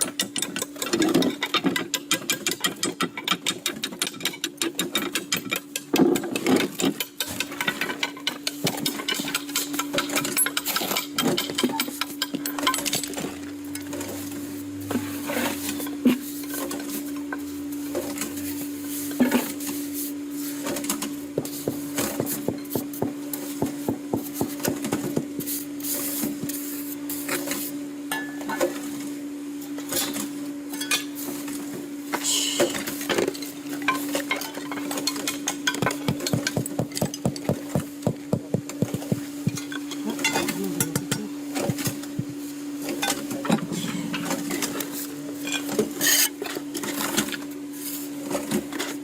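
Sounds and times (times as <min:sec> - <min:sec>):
steady hum: 0:08.1 - 0:48.7.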